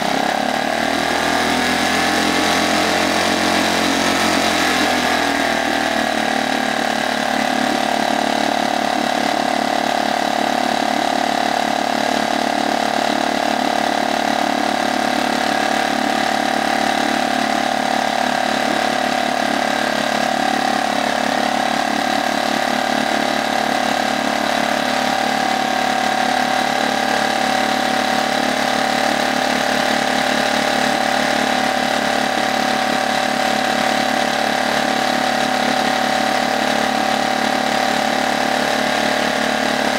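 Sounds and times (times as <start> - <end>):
outboard motor running: 0.0 - 39.9
propeller churning water: 0.0 - 39.9.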